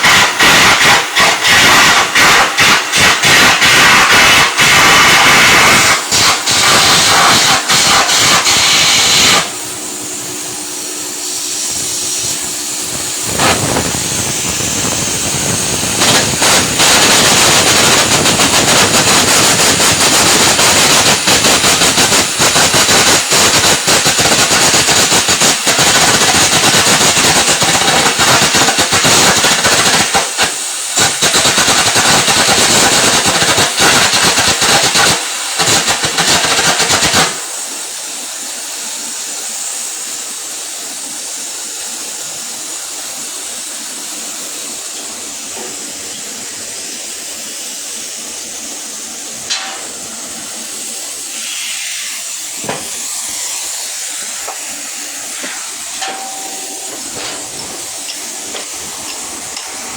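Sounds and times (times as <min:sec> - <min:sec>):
welding arc crackling: 0:00.0 - 0:37.7, 0:48.3 - 0:59.9.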